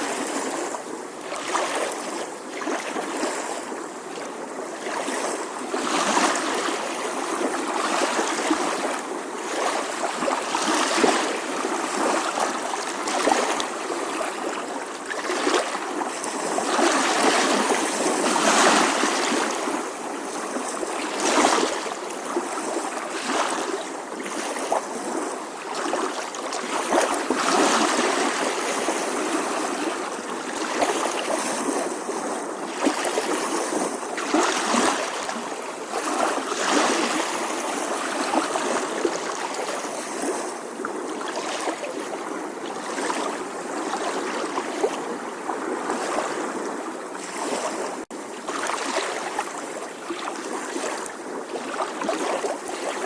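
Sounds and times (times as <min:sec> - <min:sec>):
small waves lapping on shore: 0:00.0 - 0:53.0.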